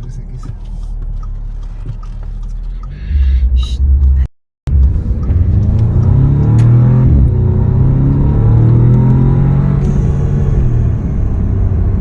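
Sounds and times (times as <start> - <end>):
car engine accelerating: 0.0 - 12.0
car engine rumbling: 0.0 - 12.0.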